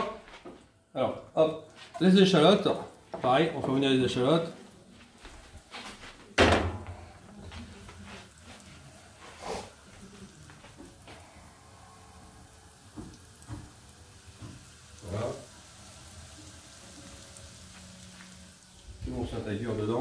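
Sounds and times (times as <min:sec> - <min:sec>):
shallots sizzling in oil: 0:01.3 - 0:04.6, 0:07.1 - 0:20.0.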